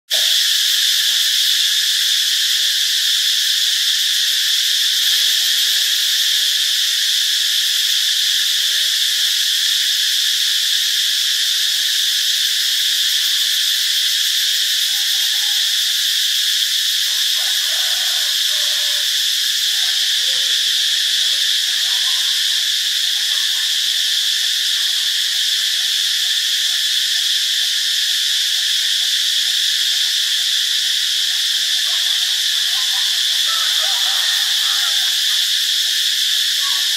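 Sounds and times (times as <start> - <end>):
cicadas buzzing: 0.1 - 36.9.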